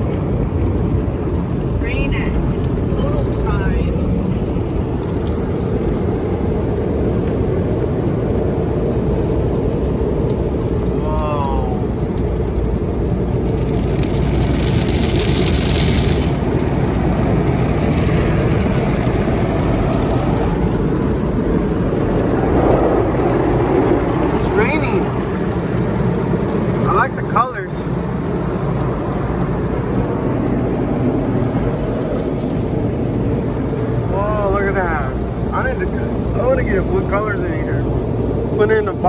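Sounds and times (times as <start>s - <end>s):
spinning car wash brushes: 0.0s - 11.0s, 11.7s - 39.0s.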